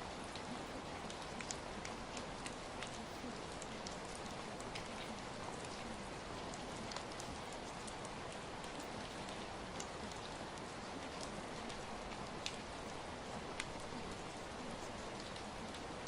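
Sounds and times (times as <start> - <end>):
raindrops ticking: 0.0 - 16.0
steady rain hiss: 0.0 - 16.0.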